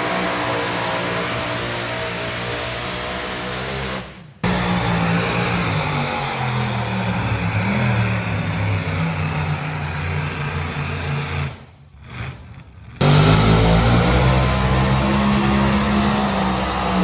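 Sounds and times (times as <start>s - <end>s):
tractor engine running hard: 0.0s - 11.4s, 13.0s - 17.0s.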